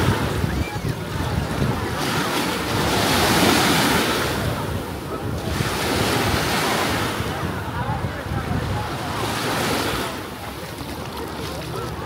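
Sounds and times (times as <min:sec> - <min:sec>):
sea waves breaking: 0:00.0 - 0:12.0
wind buffeting microphone: 0:00.0 - 0:12.0.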